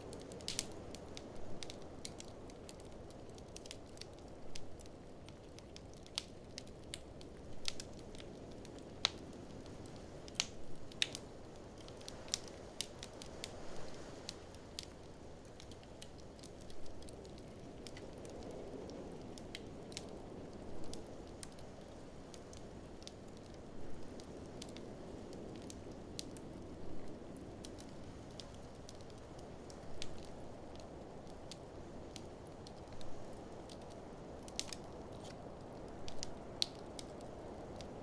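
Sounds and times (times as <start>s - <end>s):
low rushing of flames: 0.0s - 38.0s
wood fire crackling: 0.0s - 38.0s.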